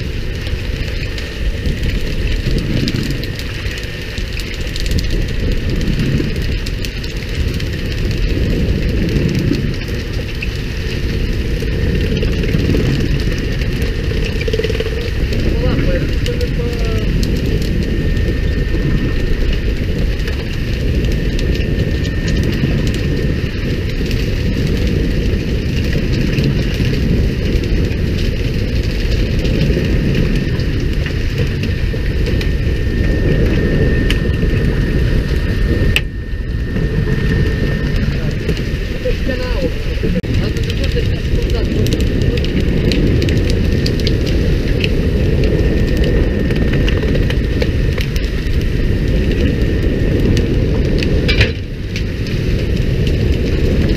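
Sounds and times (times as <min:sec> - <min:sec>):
boat engine rumbling: 0:00.0 - 0:53.9
wind on microphone: 0:00.0 - 0:53.9.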